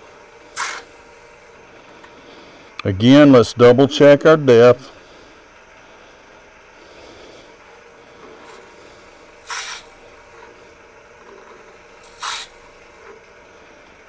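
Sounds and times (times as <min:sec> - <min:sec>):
wood lathe running: 0:00.0 - 0:14.0.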